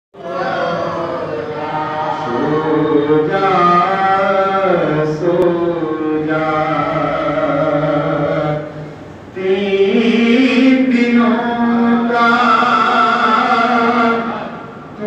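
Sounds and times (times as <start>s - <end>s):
man chanting into a microphone: 0.2s - 15.0s.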